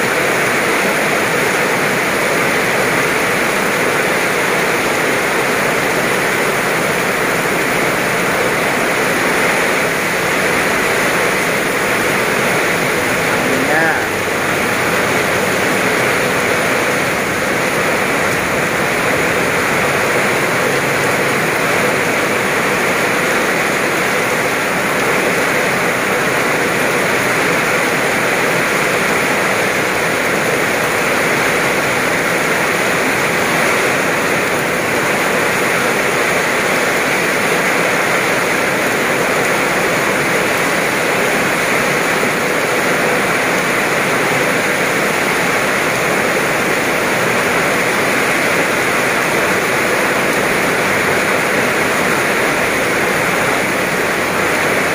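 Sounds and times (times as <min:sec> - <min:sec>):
heavy rain on wet road: 0:00.0 - 0:54.9.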